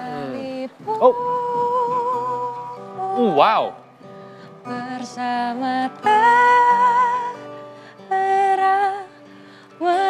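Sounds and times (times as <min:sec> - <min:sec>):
acoustic guitar: 0:00.0 - 0:10.0
woman singing: 0:00.0 - 0:10.0.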